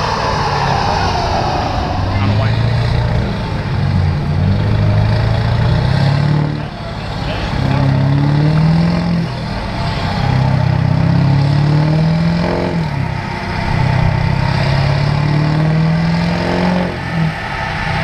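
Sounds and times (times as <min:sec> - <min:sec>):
diesel engine pulling hard under load: 0:00.0 - 0:18.0.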